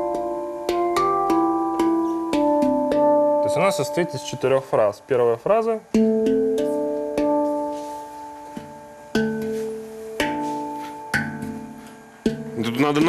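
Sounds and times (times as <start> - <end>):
handpan notes: 0.0 - 13.0.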